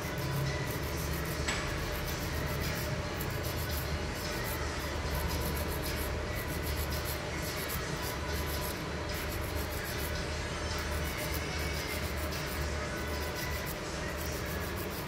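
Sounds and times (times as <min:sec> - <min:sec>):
steady low hum: 0:00.0 - 0:15.0
nail file rubbing: 0:00.1 - 0:04.6, 0:05.2 - 0:10.2, 0:10.8 - 0:15.0.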